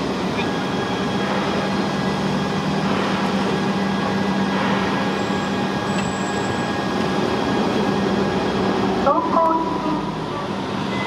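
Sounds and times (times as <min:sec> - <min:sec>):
machine running with low hum: 0:00.0 - 0:11.0.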